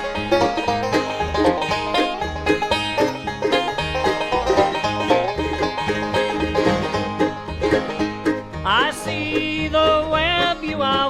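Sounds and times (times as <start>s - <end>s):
banjo picking quick runs: 0.0s - 11.0s
bass line: 0.0s - 11.0s
guitar: 0.0s - 11.0s.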